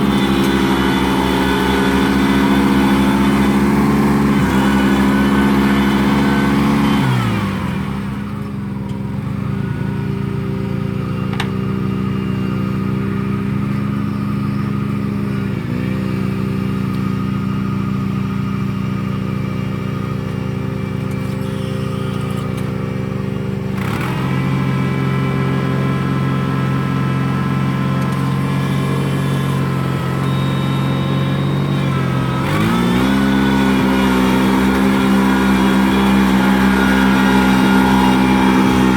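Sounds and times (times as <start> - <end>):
rice transplanter engine running: 0.0 - 38.9.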